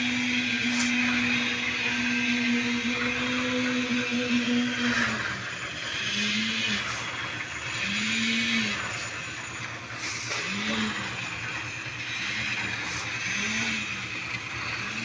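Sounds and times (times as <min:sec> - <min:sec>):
motor humming in surges: 0:00.0 - 0:15.0.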